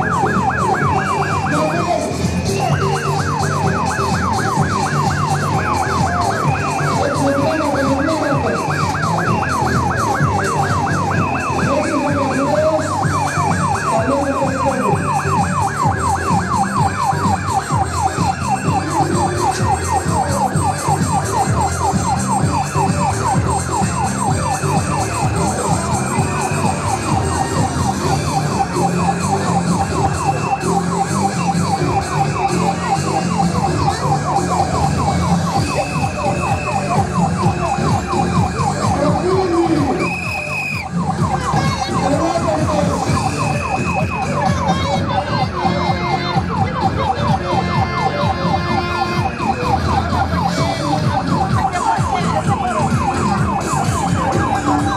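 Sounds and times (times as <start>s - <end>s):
emergency siren yelping: 0.0s - 54.9s.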